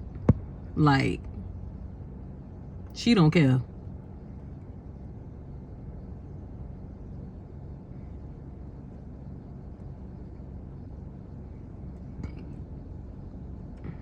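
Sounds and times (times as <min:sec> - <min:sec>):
low hum and rumble in car: 0:00.0 - 0:14.0.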